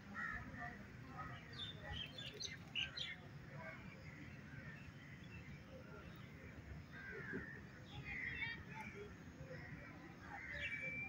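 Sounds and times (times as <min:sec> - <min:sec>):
birds chirping: 0:01.1 - 0:11.0.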